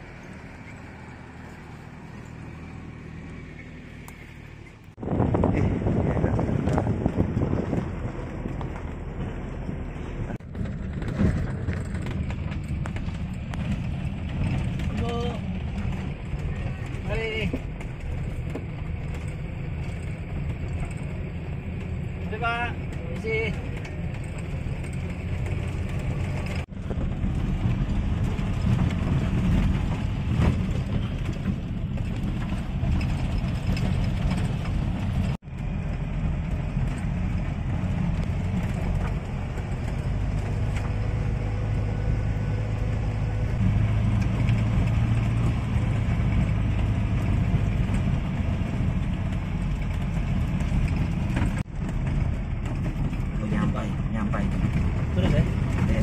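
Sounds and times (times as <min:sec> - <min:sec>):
engine and drivetrain rumble: 0:00.0 - 0:56.0
road noise: 0:00.0 - 0:56.0.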